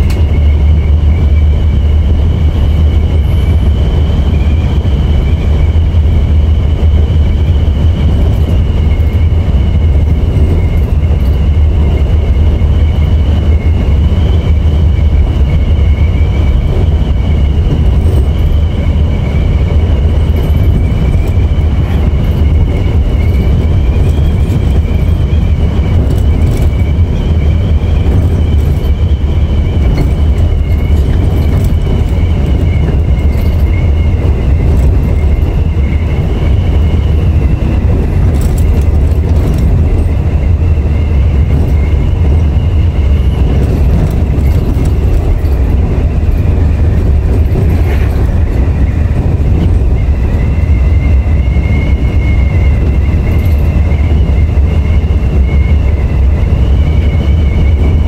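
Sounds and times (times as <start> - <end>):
bus engine and road rumble: 0.0 - 58.0
steady high whine: 0.0 - 58.0.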